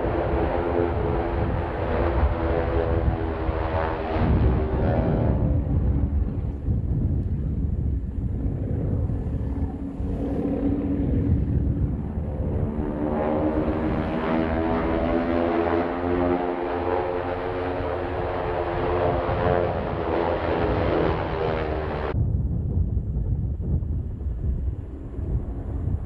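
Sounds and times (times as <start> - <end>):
propeller aircraft engine drone: 0.0 - 26.0
wind rumble on microphone: 0.0 - 26.0.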